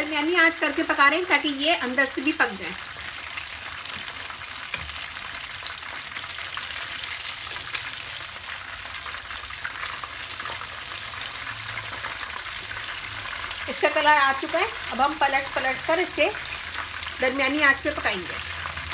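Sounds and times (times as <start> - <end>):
chicken sizzling in oil: 0.0 - 18.9.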